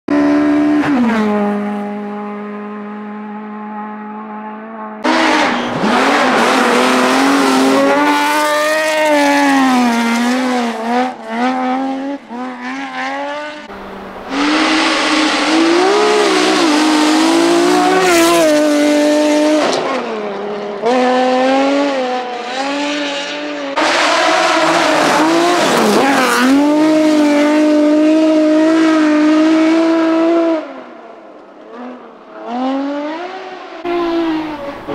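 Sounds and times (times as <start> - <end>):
rally car engines revving: 0.1 - 34.9.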